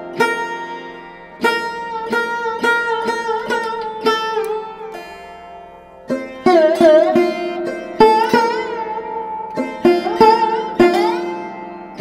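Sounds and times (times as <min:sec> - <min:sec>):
plucked string instrument: 0:00.0 - 0:12.0.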